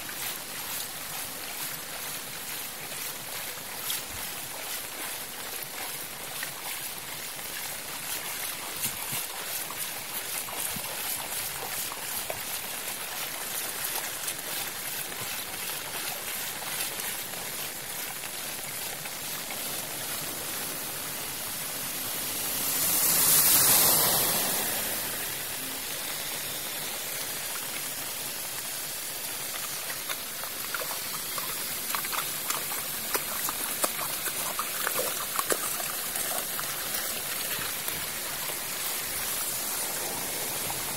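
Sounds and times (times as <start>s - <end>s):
stick splashing water: 0.0s - 20.6s, 28.6s - 40.9s
rain and floodwater running: 0.0s - 40.9s.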